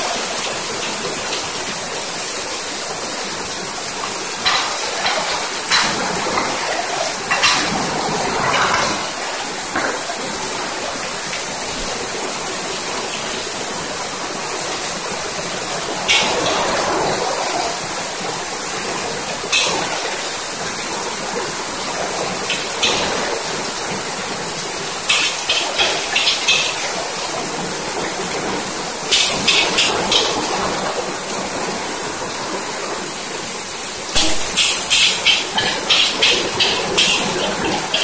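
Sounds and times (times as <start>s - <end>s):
gas burner and frying hiss: 0.0s - 38.0s.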